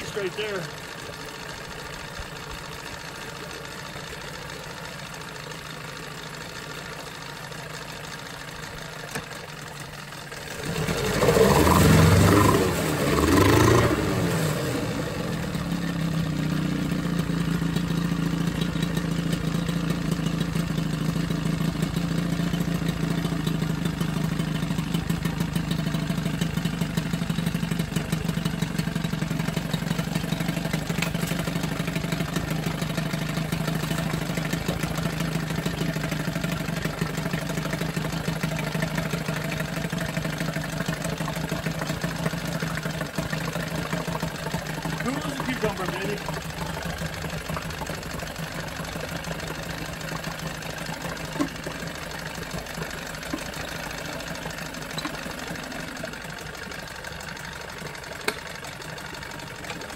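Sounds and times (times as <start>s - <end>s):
outboard motor idling: 0.0s - 59.9s.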